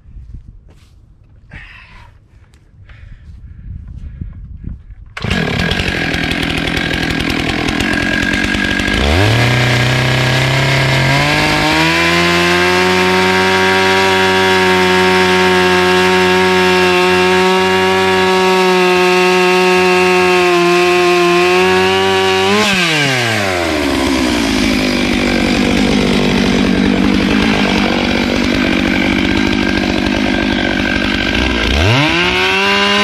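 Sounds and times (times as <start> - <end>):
chainsaw cutting log: 5.2 - 33.0.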